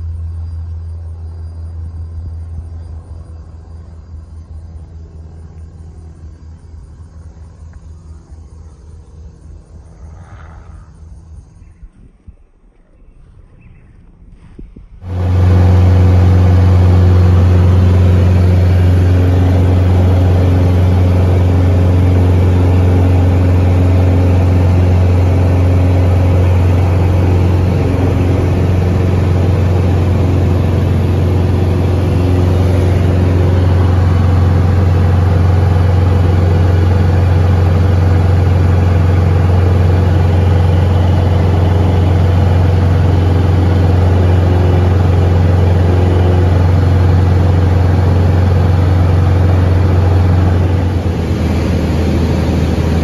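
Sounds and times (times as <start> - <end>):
airplane engine and propeller droning: 0.0 - 53.0.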